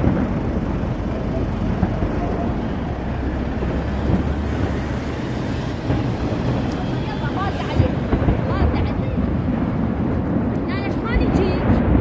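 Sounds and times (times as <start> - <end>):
bus engine rumbling: 0.0 - 12.0
traffic noise: 0.0 - 12.0.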